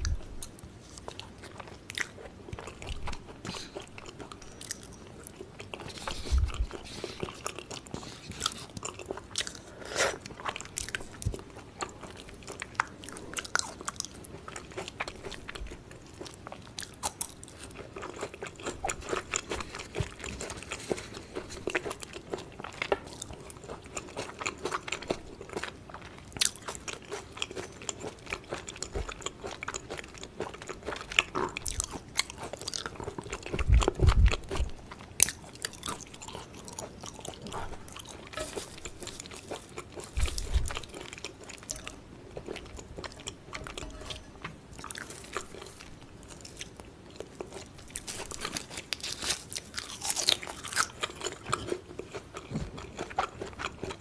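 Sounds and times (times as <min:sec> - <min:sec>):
chewing with wet mouth clicks: 0:00.0 - 0:44.2.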